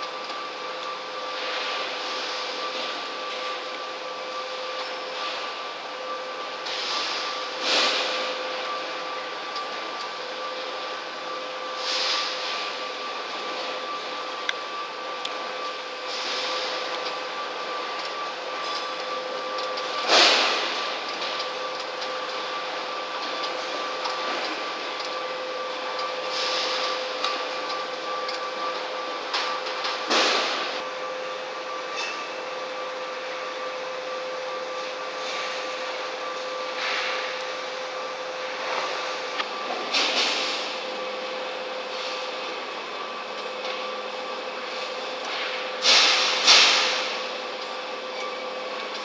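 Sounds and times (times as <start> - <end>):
machine hum with two tones: 0.0 - 49.0.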